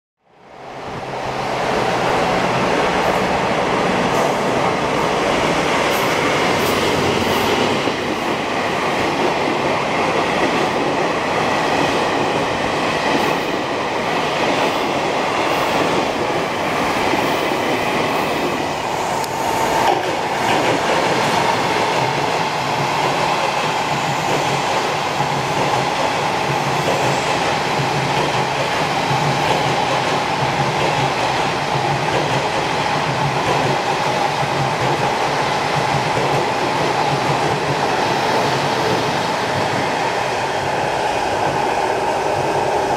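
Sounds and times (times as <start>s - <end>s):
train wheels on rails: 0.6s - 42.9s.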